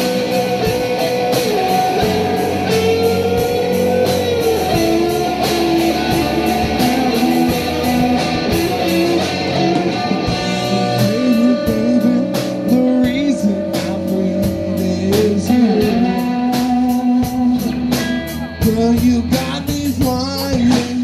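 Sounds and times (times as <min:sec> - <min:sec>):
bass guitar: 0:00.0 - 0:21.0
drum kit steady beat: 0:00.0 - 0:21.0
electric guitars: 0:00.0 - 0:21.0.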